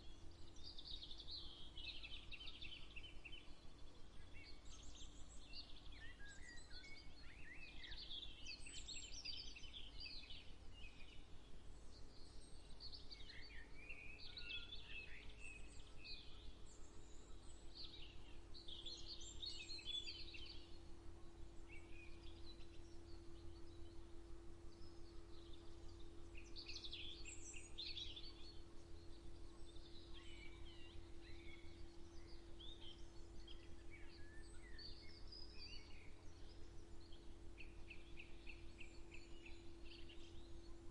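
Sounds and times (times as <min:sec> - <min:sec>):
birds chirping and warbling: 0:00.0 - 0:40.9
faint steady low hum: 0:00.0 - 0:40.9.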